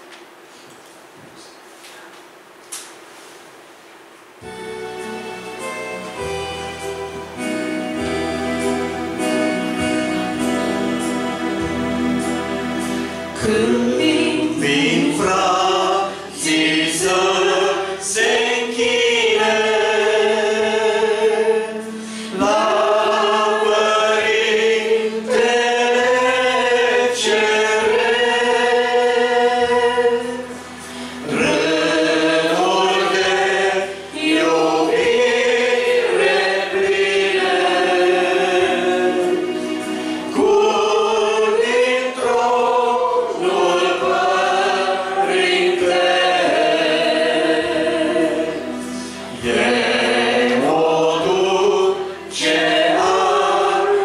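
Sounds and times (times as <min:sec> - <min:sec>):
congregation singing a hymn: 0:04.4 - 0:54.0.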